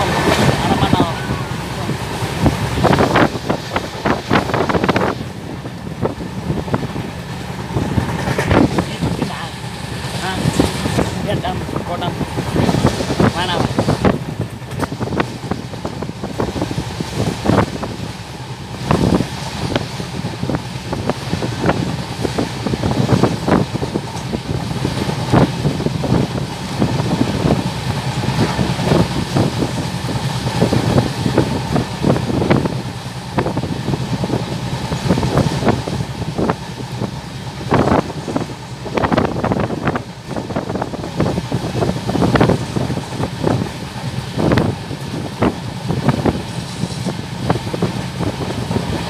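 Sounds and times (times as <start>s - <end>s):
rushing wind: 0.0s - 49.0s
train wheels rumbling on rails: 0.0s - 49.0s.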